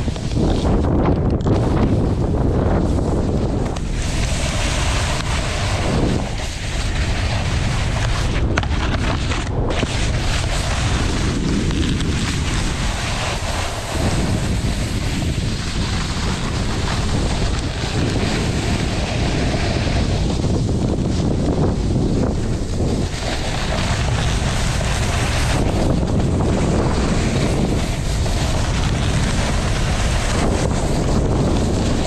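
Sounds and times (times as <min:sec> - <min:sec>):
snowboard scraping over snow: 0:00.0 - 0:32.0
wind rushing over microphone: 0:00.0 - 0:32.0.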